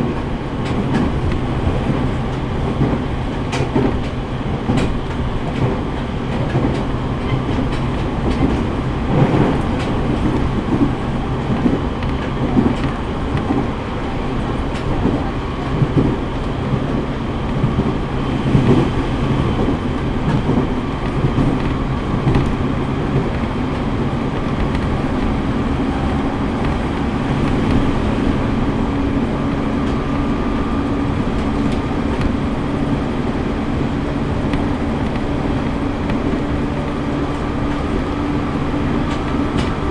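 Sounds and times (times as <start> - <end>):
rail-joint clacks: 0.0 - 39.9
wheels rumbling on rail: 0.0 - 39.9.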